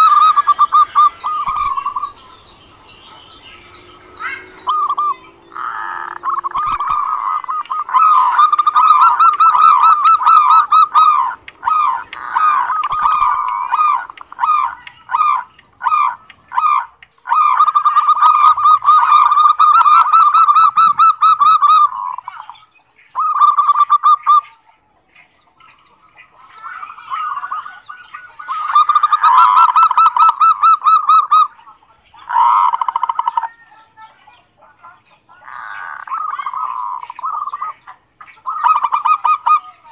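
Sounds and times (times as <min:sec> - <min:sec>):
dove rattling coo call: 0:00.0 - 0:24.6, 0:25.6 - 0:34.1, 0:34.7 - 0:39.9.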